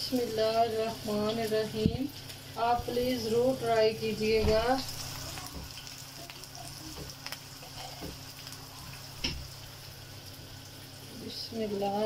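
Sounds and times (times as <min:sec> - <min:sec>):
kebabs sizzling in oil: 0:00.0 - 0:12.0.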